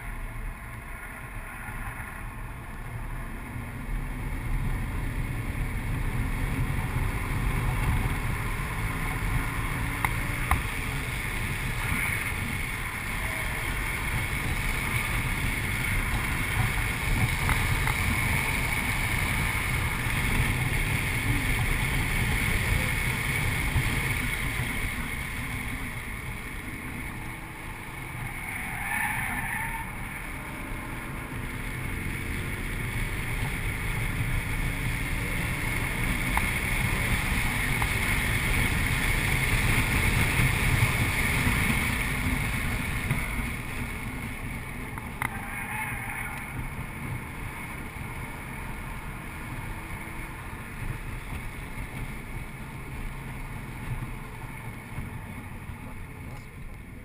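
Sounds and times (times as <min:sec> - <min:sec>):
car engine drone from cabin: 0:00.0 - 0:57.0.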